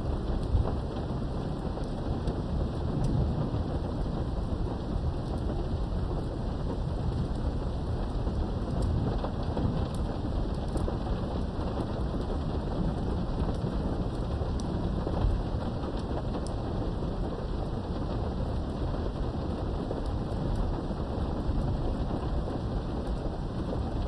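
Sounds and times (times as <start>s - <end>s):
heavy rain behind window: 0.0s - 24.0s
low rumble of thunder: 0.0s - 24.0s.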